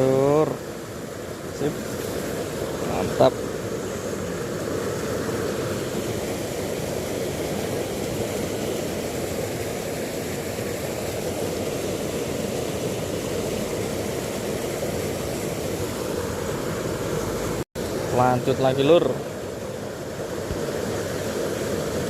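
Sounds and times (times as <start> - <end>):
river water flowing over stones: 0.0 - 22.0.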